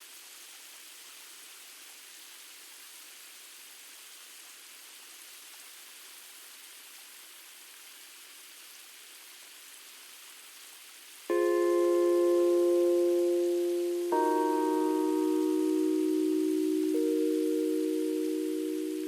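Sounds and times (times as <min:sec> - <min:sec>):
faint steady rain: 0:00.0 - 0:19.0.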